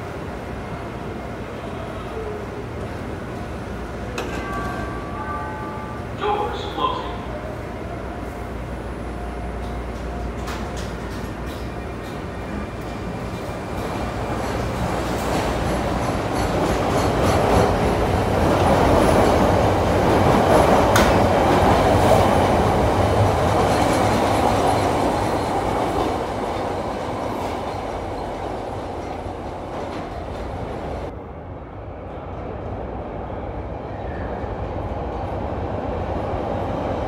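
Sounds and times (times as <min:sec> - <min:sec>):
subway train wheels clattering: 0:00.0 - 0:37.0.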